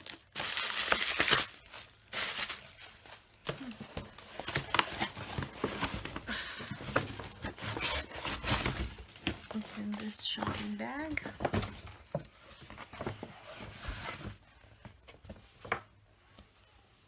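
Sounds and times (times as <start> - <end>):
packaging rustling and crinkling: 0.0 - 14.6.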